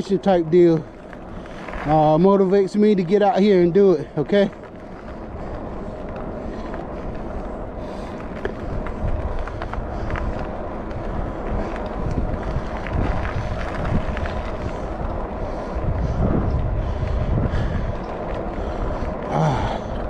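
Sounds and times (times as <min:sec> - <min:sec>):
tyres rolling: 0:00.0 - 0:20.0
wind rushing over microphone: 0:00.0 - 0:20.0.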